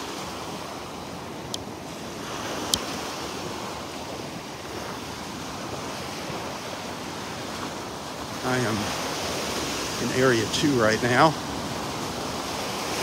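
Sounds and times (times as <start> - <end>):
surf washing onto beach: 0.0 - 13.0
wind on microphone: 0.0 - 13.0.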